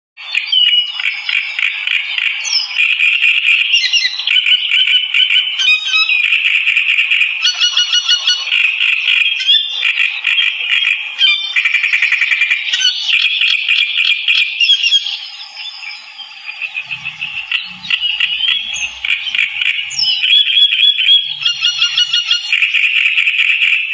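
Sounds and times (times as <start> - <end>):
songbird chattering song: 0.2 - 23.9
bird whistled phrases: 0.3 - 1.8, 2.4 - 6.5, 7.4 - 23.7.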